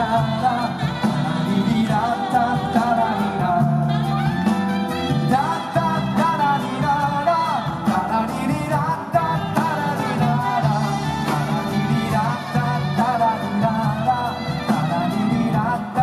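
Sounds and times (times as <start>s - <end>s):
live band music: 0.0s - 16.0s.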